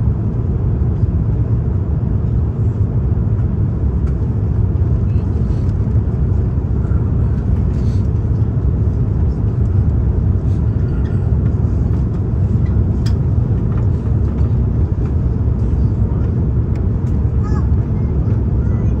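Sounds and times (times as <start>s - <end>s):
jet engines roaring in cabin: 0.0s - 19.0s.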